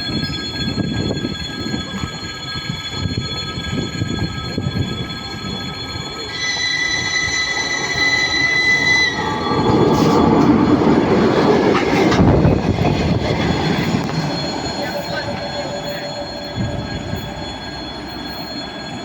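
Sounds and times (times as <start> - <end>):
bright squeal tone: 0.0 - 19.0
high wheel squeal: 0.0 - 19.0
train rolling on rails: 0.0 - 19.0.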